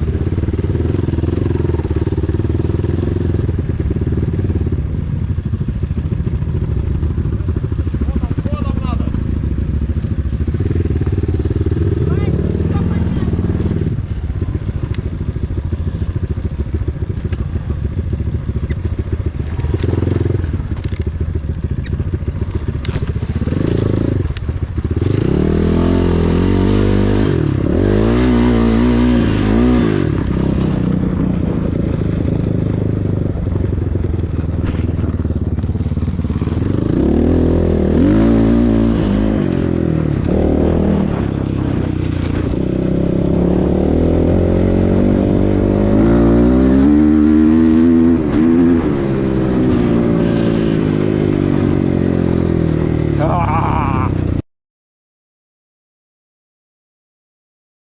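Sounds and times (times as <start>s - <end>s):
motorcycle engine revving: 0.0s - 54.4s.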